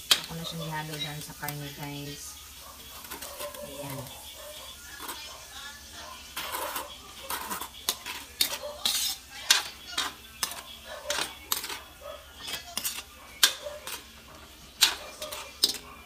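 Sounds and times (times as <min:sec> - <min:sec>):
spatula scraping metal wok: 0:00.0 - 0:16.0.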